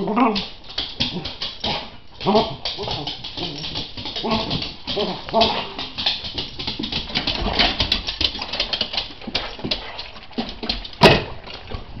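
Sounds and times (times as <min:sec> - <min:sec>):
dog claws clicking on wooden floor: 0:00.0 - 0:12.0.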